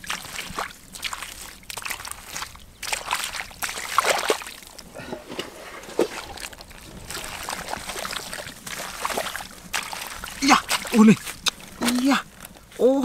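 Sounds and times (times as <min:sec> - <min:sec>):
wet mud slaps: 0:00.0 - 0:04.6, 0:06.0 - 0:12.2
hands squelching through mud: 0:00.0 - 0:12.8.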